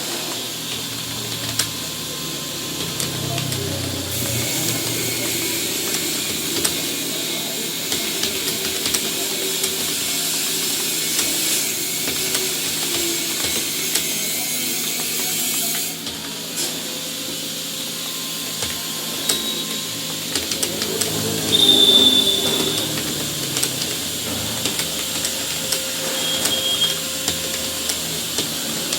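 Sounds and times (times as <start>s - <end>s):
loud steady hiss: 0.0s - 28.9s.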